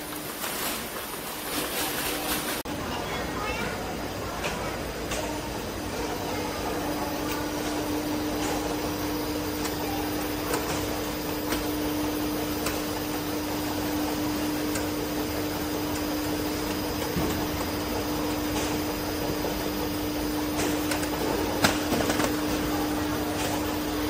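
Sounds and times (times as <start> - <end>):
conveyor machinery hum: 0.0 - 24.0.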